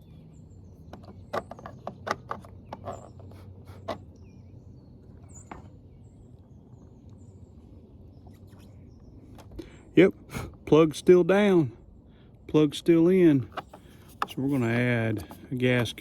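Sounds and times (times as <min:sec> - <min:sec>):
birds chirping faintly: 0:00.0 - 0:16.0
low steady hum: 0:00.0 - 0:16.0.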